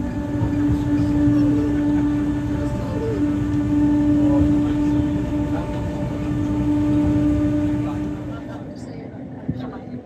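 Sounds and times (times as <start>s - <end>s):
electric tram drive whine: 0.0s - 10.0s
wheels rumbling on rails: 0.0s - 10.0s.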